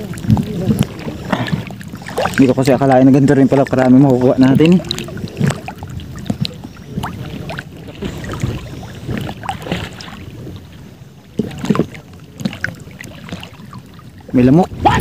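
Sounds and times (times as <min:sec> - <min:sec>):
small water splashes: 0:00.0 - 0:15.0
water sloshing and lapping: 0:00.0 - 0:15.0.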